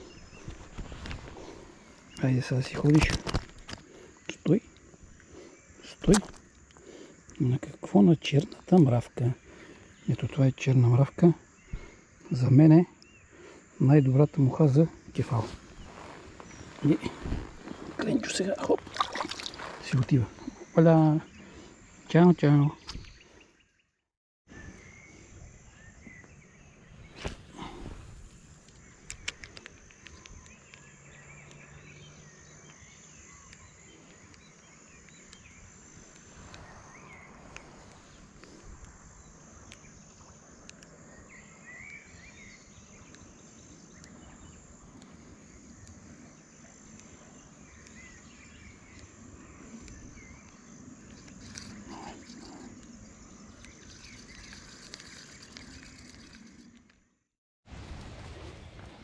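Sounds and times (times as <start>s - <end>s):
insect chirring: 0.0s - 23.4s, 24.5s - 57.1s
faint bird chirps: 4.0s - 56.7s.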